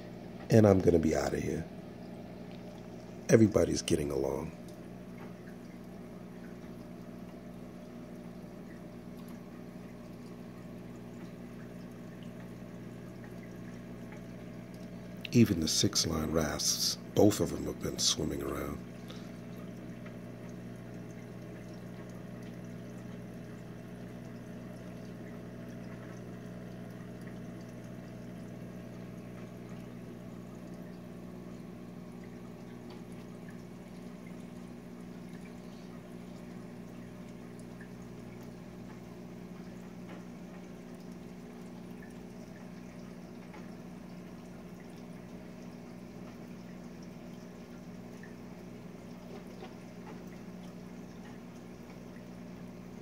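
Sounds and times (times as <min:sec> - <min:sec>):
faint drips: 0:00.0 - 0:53.0
low hum of pumps: 0:00.0 - 0:53.0
water trickling and splashing: 0:00.0 - 0:53.0.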